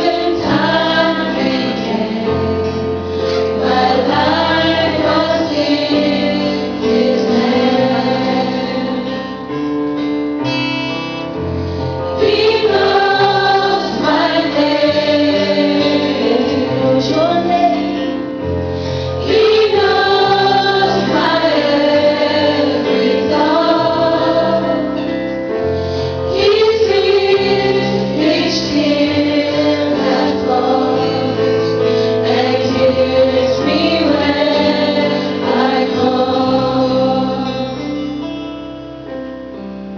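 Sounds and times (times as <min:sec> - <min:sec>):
group of voices singing: 0:00.0 - 0:09.4, 0:12.2 - 0:17.9, 0:19.2 - 0:25.0, 0:26.3 - 0:37.8
instrumental backing music: 0:00.0 - 0:39.9.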